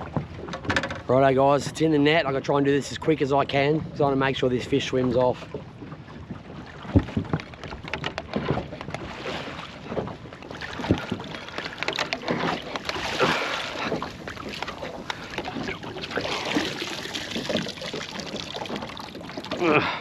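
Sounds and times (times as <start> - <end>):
knocks and clatter in boat: 0.0 - 20.0.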